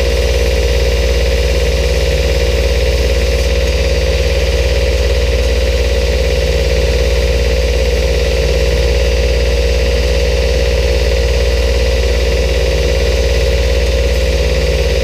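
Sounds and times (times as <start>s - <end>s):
belt grinder running: 0.0s - 15.0s.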